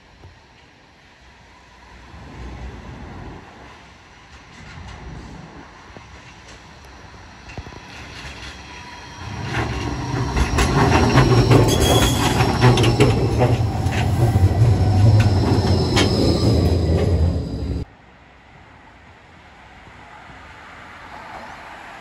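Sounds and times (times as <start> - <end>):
tram wheels rumbling on rail: 0.2 - 17.9.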